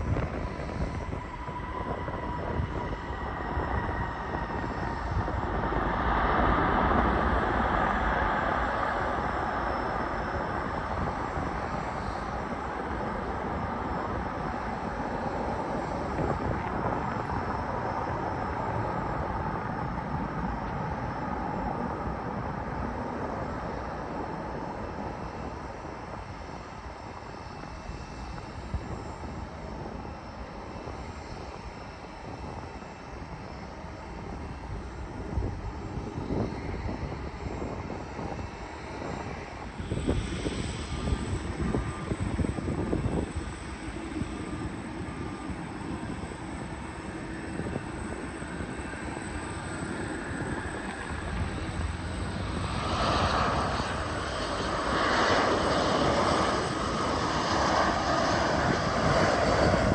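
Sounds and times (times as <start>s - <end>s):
jet engines rushing past: 0.0s - 59.9s.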